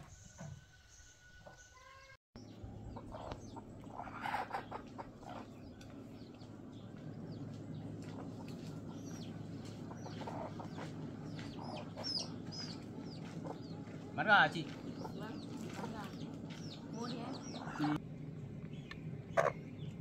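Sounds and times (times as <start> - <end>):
chicks cheeping: 0.1 - 18.0, 18.7 - 20.0
chickens clucking: 1.4 - 18.0, 18.8 - 19.7
steady low hum: 2.4 - 20.0.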